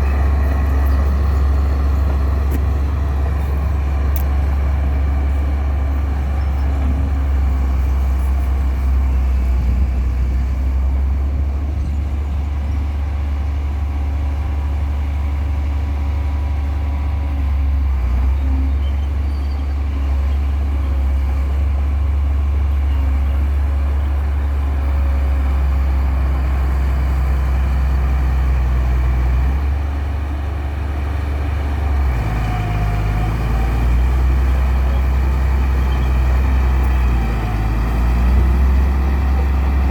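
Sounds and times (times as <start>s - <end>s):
heavy vehicle engine droning: 0.0s - 39.9s.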